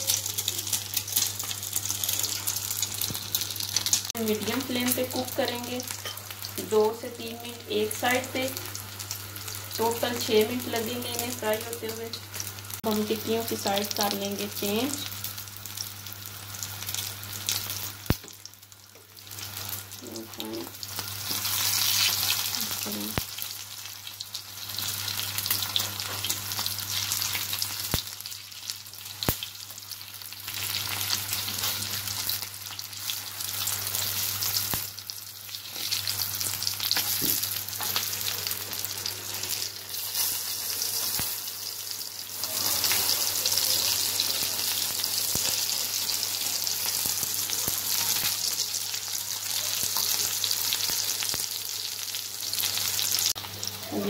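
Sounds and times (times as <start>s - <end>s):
oil sizzling on griddle: 0.0s - 54.0s.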